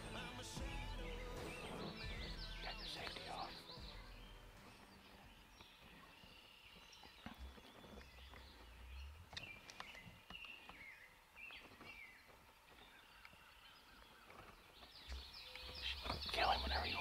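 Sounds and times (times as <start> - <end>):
faint bird chirps: 0.8 - 17.0.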